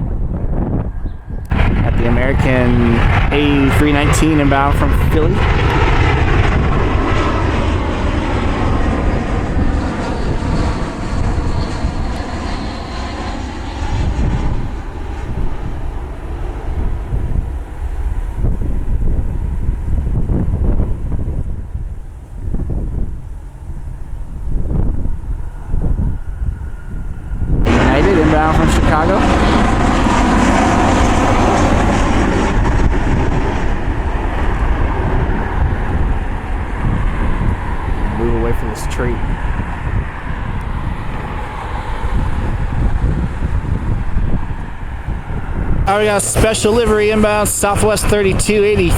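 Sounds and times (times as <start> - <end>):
jet engines rumbling past: 0.0 - 48.9.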